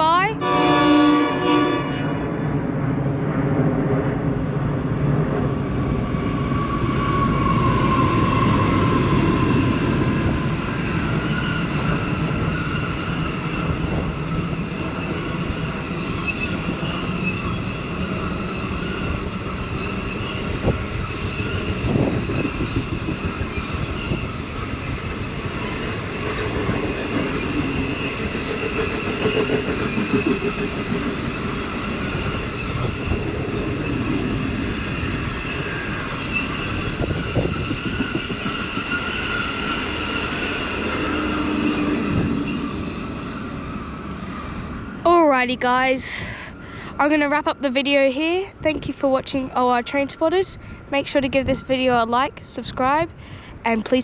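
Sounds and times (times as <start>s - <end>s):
diesel locomotive passing: 0.0s - 54.0s
train wheel rumble and clatter: 2.2s - 46.0s.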